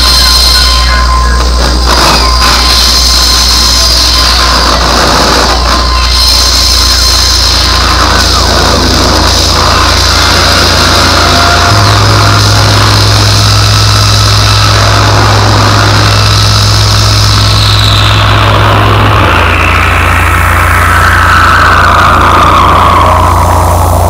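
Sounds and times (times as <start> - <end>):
low electronic drone: 0.0 - 24.0.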